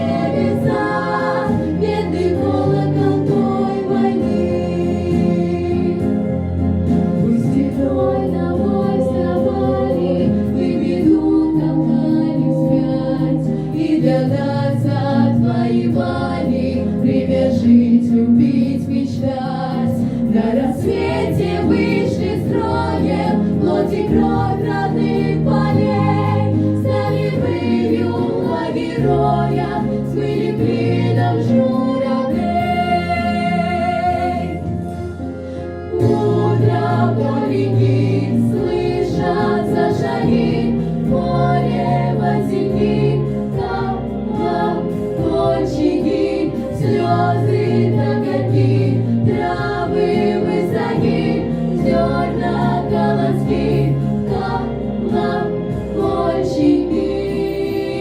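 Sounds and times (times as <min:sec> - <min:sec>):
prerecorded backing track: 0:00.0 - 0:58.0
vocal ensemble singing in harmony: 0:00.0 - 0:58.0.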